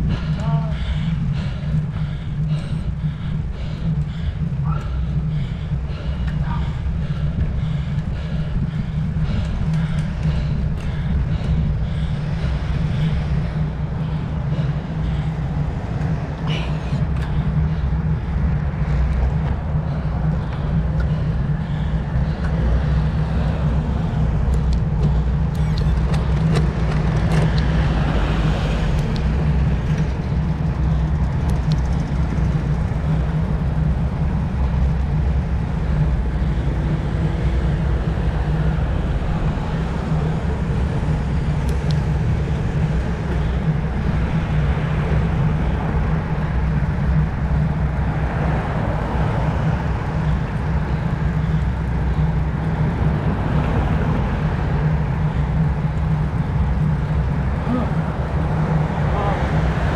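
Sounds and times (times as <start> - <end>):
tyre and road noise: 0.0 - 59.9
wind rumble on microphone: 0.0 - 59.9.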